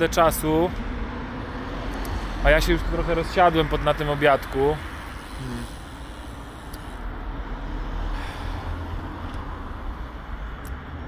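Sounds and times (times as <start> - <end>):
wind and road noise rumble: 0.0 - 11.0.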